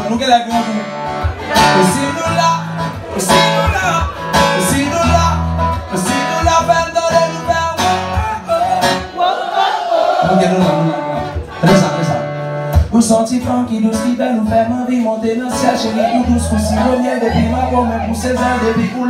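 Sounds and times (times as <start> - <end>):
man singing: 0.0 - 9.2, 10.2 - 12.0, 12.9 - 19.0
acoustic guitar strumming: 0.0 - 19.0.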